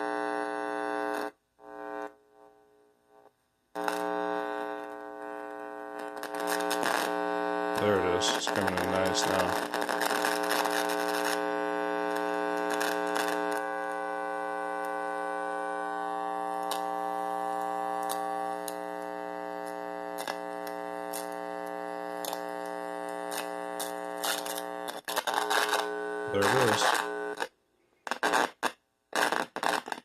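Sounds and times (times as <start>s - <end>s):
amplifier electrical buzz: 0.0s - 27.5s.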